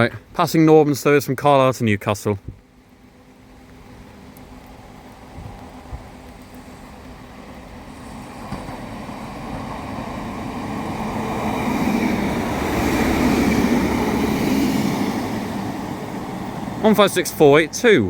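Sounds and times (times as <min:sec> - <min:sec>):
diesel train running past: 0:03.0 - 0:18.0.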